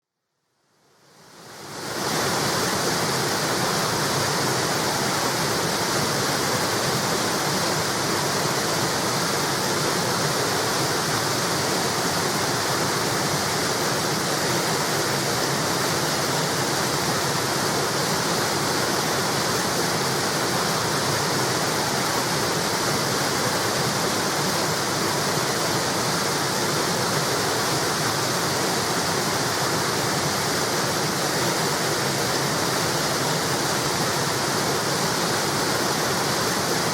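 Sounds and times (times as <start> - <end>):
river water flowing over weir: 1.1 - 36.9.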